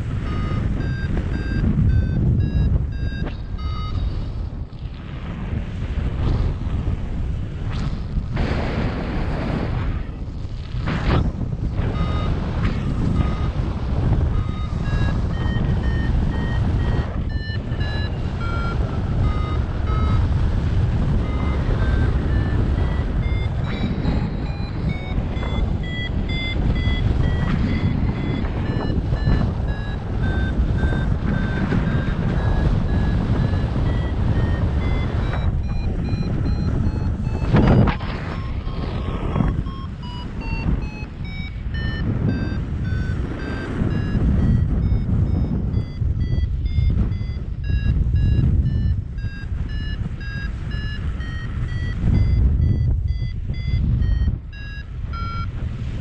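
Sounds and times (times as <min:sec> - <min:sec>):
variometer beeping: 0:00.0 - 0:04.5, 0:10.9 - 0:56.0
wind rush on microphone: 0:00.0 - 0:56.0.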